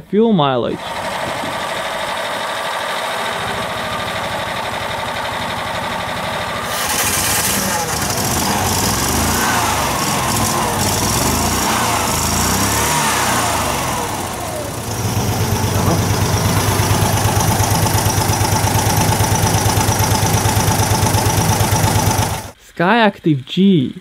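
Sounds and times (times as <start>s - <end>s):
small car engine revving and idling: 0.8s - 22.6s.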